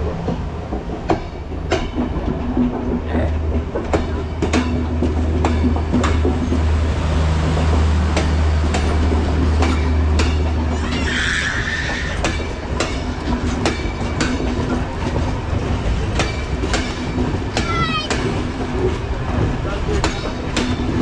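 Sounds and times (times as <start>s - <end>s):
train wheels clattering over rail joints: 0.0s - 21.0s.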